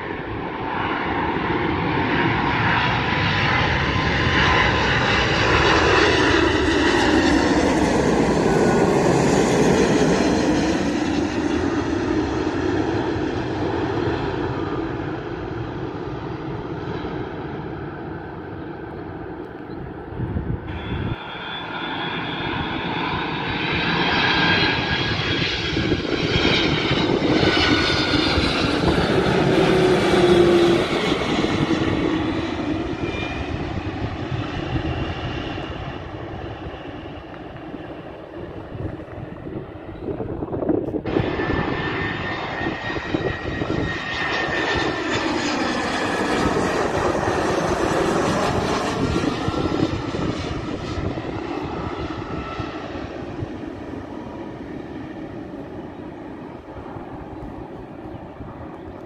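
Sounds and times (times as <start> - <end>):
airliner jet engines passing overhead: 0.0 - 59.0
second airliner jet noise: 0.0 - 59.0.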